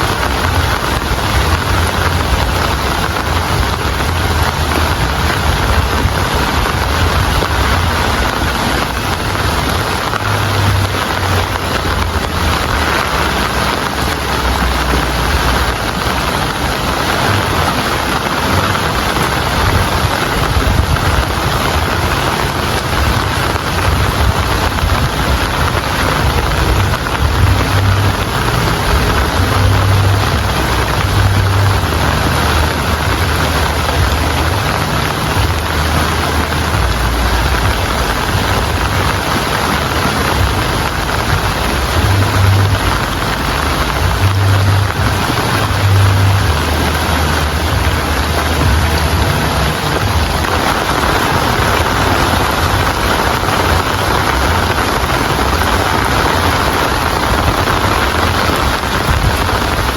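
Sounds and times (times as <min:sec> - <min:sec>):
heavy rainfall: 0:00.0 - 0:59.9
low rumble: 0:00.0 - 0:59.9.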